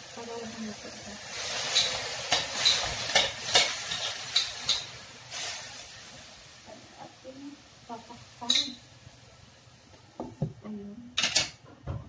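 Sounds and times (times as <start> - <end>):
food sizzling in a wok: 0.0 - 11.6.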